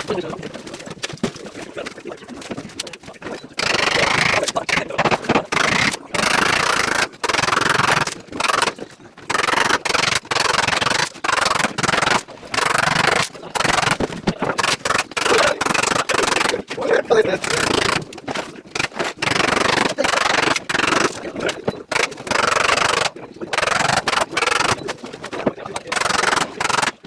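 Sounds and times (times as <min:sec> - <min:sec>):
choppy rubbing and scraping: 0:00.0 - 0:27.0.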